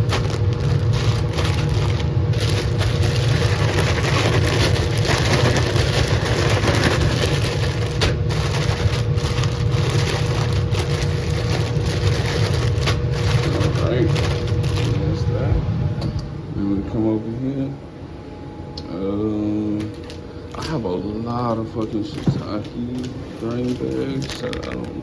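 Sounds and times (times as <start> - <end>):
faint steady hum: 0.0 - 25.0
fan running: 0.0 - 25.0.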